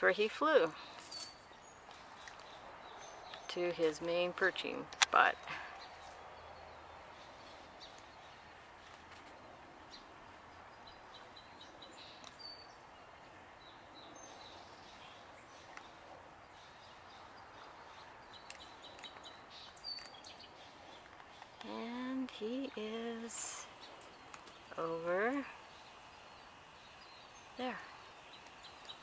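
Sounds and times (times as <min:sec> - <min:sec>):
faint outdoor hum: 0:00.0 - 0:29.0
small birds chirping: 0:00.0 - 0:29.0.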